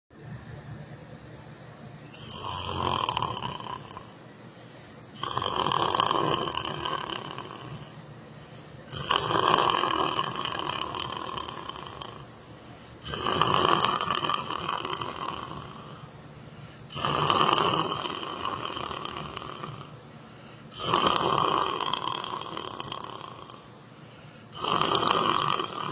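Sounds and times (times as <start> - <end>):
person snoring: 2.1 - 25.9
quiet breathing: 3.8 - 9.8, 10.6 - 25.9.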